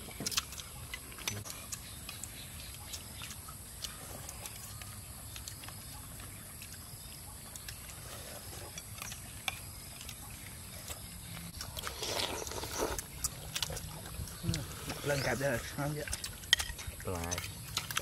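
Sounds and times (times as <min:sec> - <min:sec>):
eating sounds rustle: 0:00.0 - 0:18.0.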